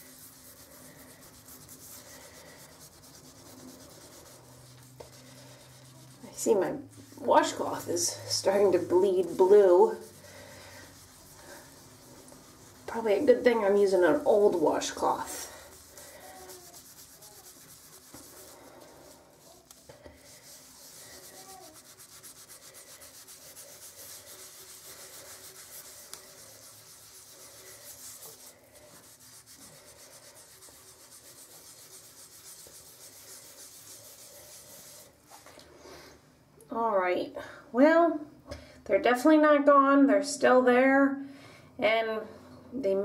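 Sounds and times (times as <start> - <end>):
washcloth scrubbing bathtub: 0.0 - 35.5.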